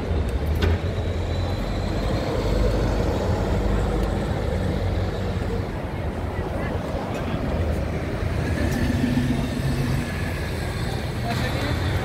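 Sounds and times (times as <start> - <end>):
bus engine humming: 0.0 - 12.0
street traffic: 0.0 - 12.0.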